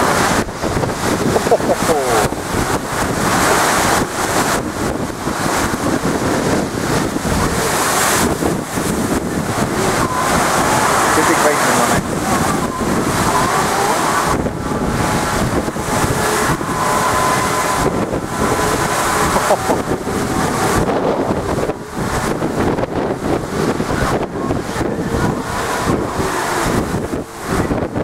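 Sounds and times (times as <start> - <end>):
storm waves surging against wall: 0.0 - 28.0
wind buffeting microphone: 0.0 - 28.0.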